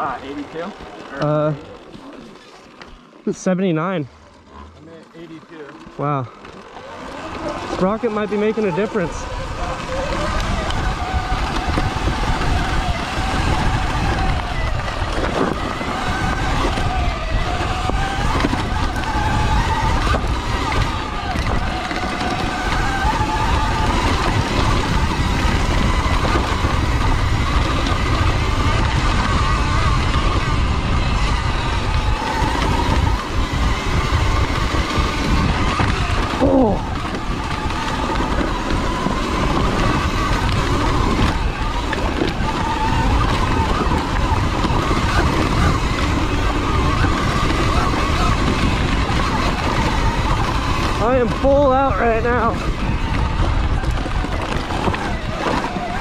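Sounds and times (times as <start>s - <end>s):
electric motor whine: 0.0s - 56.0s
tyres on dirt: 0.0s - 56.0s
wind rumble: 0.0s - 56.0s.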